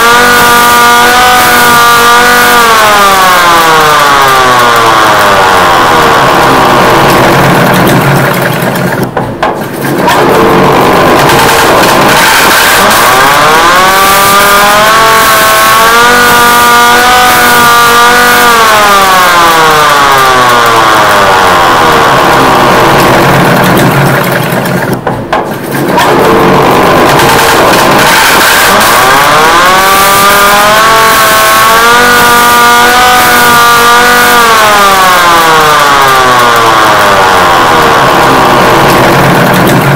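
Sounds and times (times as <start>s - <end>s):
alarm siren wailing: 0.0s - 8.9s, 10.0s - 24.1s, 25.8s - 39.9s.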